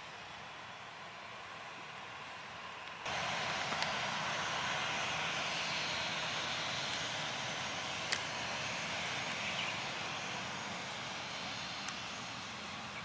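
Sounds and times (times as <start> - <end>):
jet airliner flying overhead: 0.0 - 13.0.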